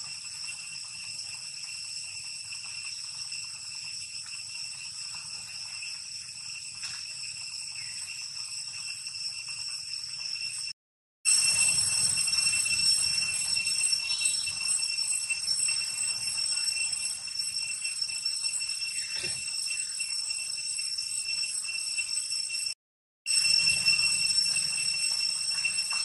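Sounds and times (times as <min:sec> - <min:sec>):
high-pitched insect drone: 0:00.0 - 0:26.0.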